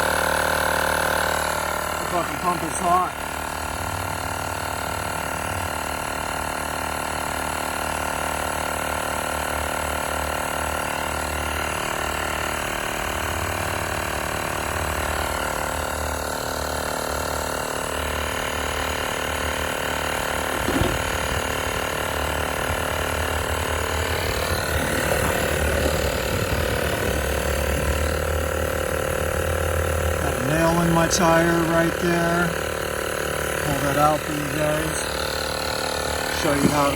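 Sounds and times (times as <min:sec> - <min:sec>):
tire inflator compressor running: 0:00.0 - 0:36.9.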